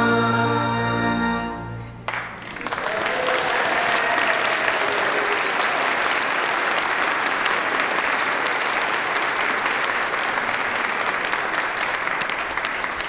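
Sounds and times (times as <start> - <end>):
congregation applauding: 2.1 - 13.0.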